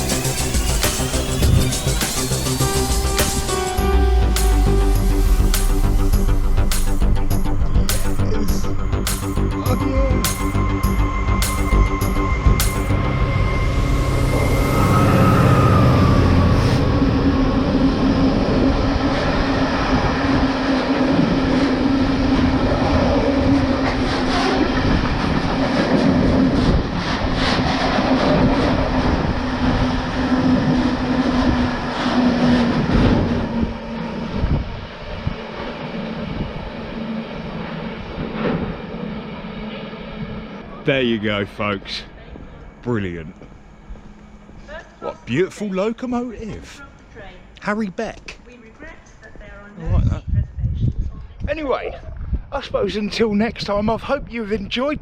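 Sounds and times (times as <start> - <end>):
locomotive engine droning: 0.0 - 47.6.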